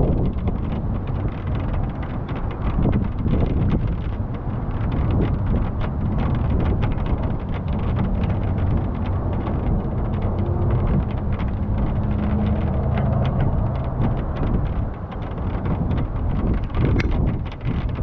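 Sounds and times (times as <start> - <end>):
vehicle engine hum: 0.0 - 18.0
wind rushing over microphone: 0.0 - 18.0
sharp ticks: 0.3 - 18.0.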